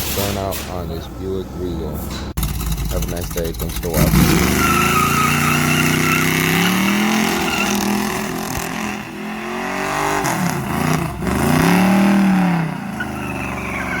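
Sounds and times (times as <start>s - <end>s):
car engine revving hard: 2.4s - 14.0s.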